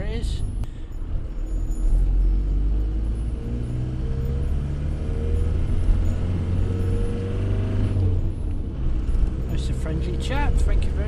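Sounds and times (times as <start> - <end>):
diesel engine running while driving: 0.0 - 11.0.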